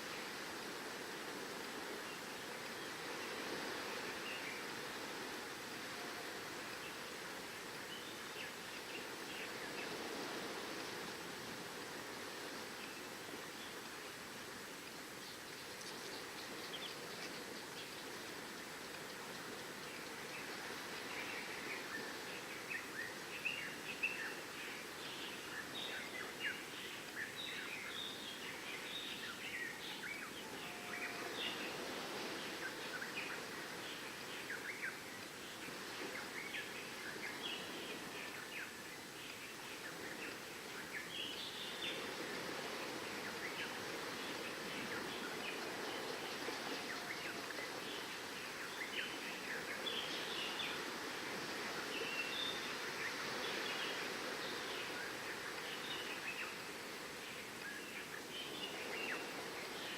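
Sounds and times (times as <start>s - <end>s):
surf: 0.0s - 59.9s.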